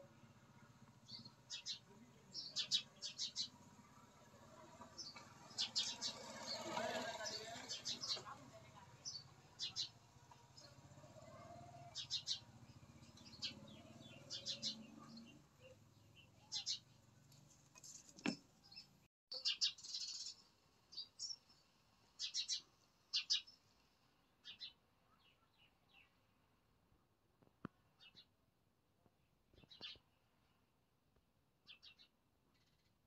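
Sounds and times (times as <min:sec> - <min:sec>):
small birds chirping: 0:00.0 - 0:26.2, 0:27.9 - 0:28.4, 0:29.5 - 0:30.6, 0:31.6 - 0:33.0.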